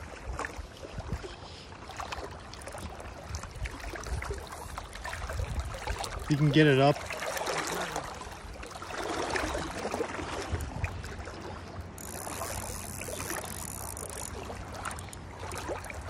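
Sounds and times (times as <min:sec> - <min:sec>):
small water splashes: 0:00.0 - 0:16.0.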